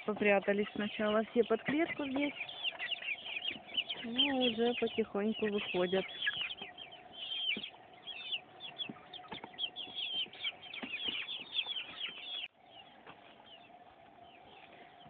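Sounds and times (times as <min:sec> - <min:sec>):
young chickens peeping: 0:00.0 - 0:15.0.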